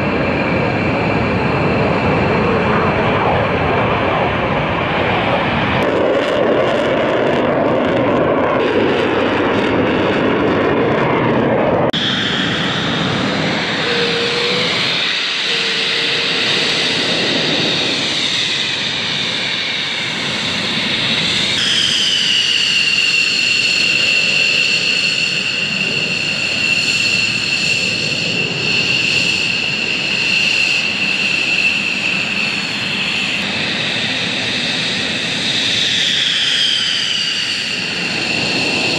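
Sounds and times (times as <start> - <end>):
high jet engine whine: 0.0 - 38.9
jet engines roaring at takeoff: 0.0 - 38.9.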